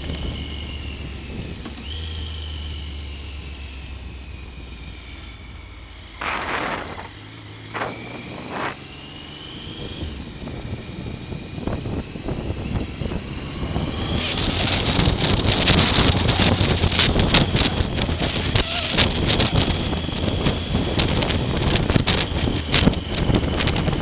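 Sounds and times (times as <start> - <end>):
wind noise on microphone: 0.0 - 2.1, 6.2 - 9.0, 9.6 - 24.0
motorcycle engine humming: 0.0 - 24.0.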